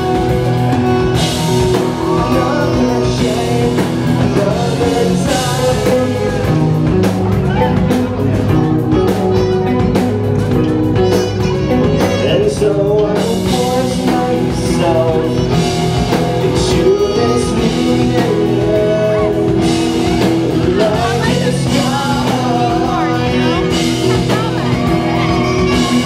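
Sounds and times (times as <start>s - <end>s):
bass guitar: 0.0s - 26.0s
drums: 0.0s - 26.0s
electric guitar: 0.0s - 26.0s
saxophone melody: 0.0s - 26.0s.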